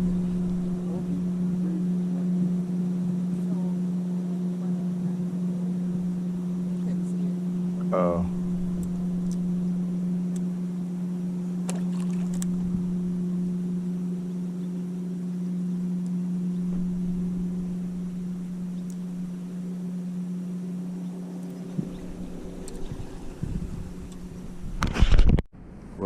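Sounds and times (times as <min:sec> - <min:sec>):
boat motor humming: 0:00.0 - 0:26.0.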